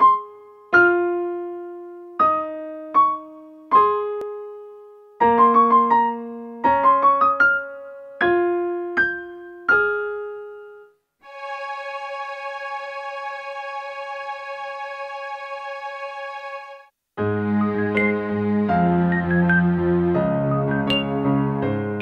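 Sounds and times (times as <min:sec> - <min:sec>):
slow piano music: 0:00.0 - 0:16.6, 0:17.2 - 0:22.0.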